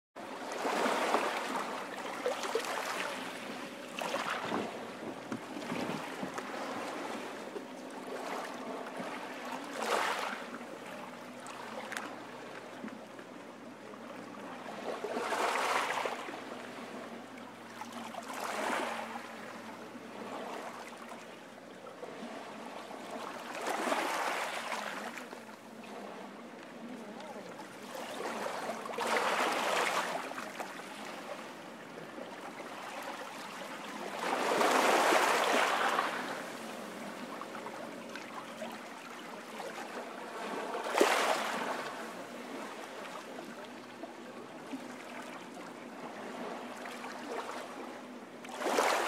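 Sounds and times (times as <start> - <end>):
waves breaking on a beach: 0.2 - 49.0.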